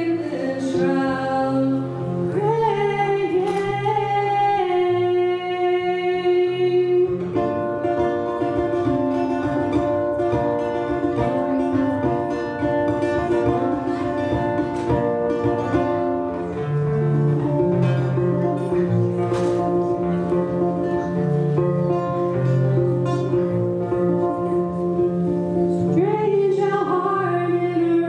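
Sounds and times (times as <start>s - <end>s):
held chords: 0.0s - 28.0s
plucked guitar: 0.0s - 28.0s.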